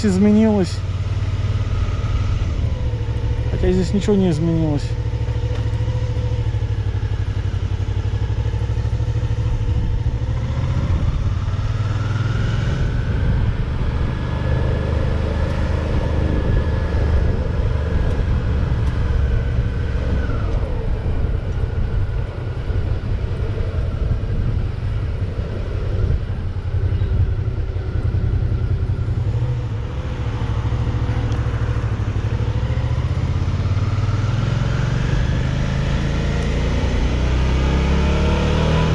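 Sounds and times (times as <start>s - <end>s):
motorcycle engine running: 0.0s - 36.2s.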